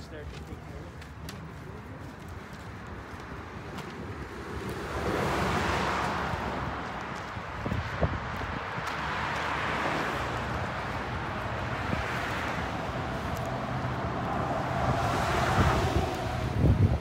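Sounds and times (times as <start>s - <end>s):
cars passing: 0.0s - 17.0s
wind rumbling on microphone: 1.6s - 17.0s.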